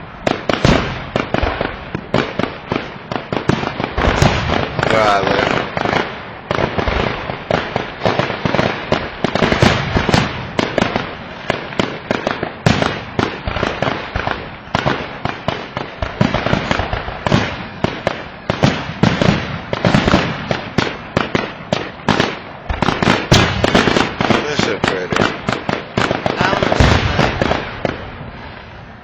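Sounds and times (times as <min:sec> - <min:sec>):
fireworks bangs: 0:00.0 - 0:29.0.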